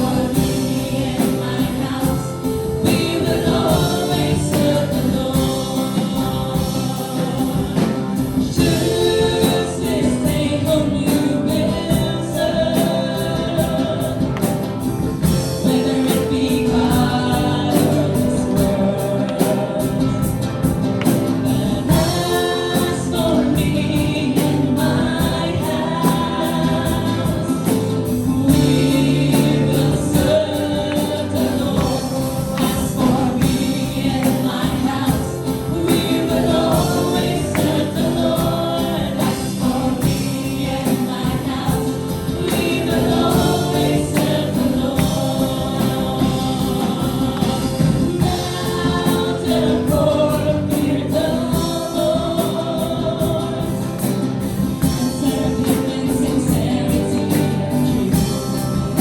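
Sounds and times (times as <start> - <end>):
group singing gospel song: 0.0 - 59.0.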